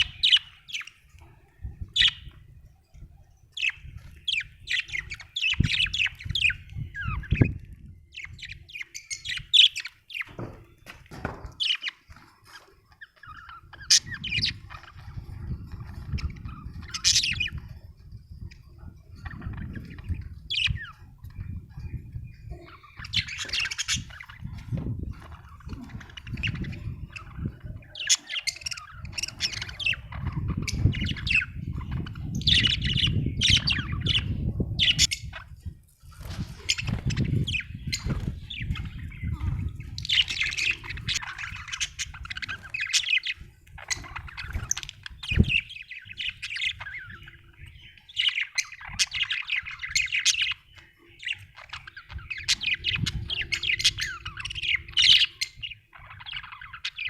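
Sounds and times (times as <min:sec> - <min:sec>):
budgerigars chirping: 0:00.0 - 0:01.2, 0:01.8 - 0:02.4, 0:03.4 - 0:57.0.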